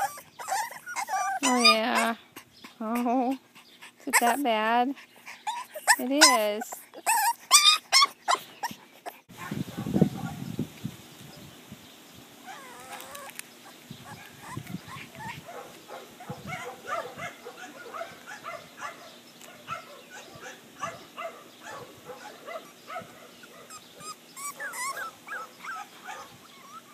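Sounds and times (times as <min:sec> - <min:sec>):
puppies whining and yipping: 0:00.0 - 0:02.5, 0:03.1 - 0:04.4, 0:05.2 - 0:09.6, 0:12.4 - 0:26.9.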